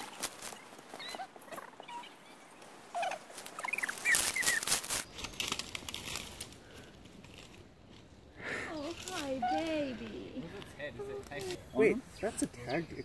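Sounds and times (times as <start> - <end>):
sticks crackling underfoot: 0.0 - 1.7, 2.5 - 12.5
bird chirping: 0.0 - 6.2, 8.4 - 13.0.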